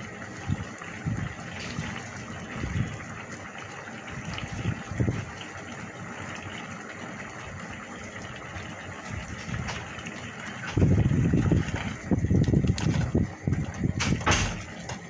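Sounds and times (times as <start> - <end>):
sauce bubbling in a pan: 0.0 - 15.0
steady hum: 0.0 - 15.0.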